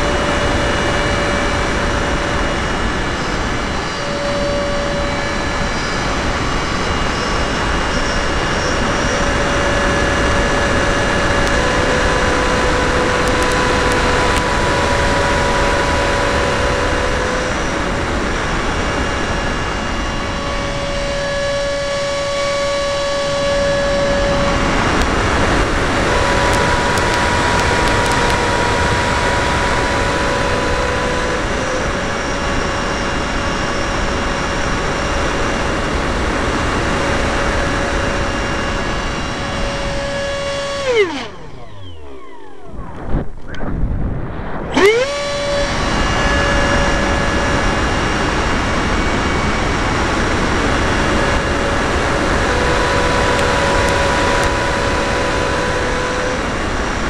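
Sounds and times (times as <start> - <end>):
model plane motor whine: 0.0 - 57.0
wind rush: 0.0 - 57.0.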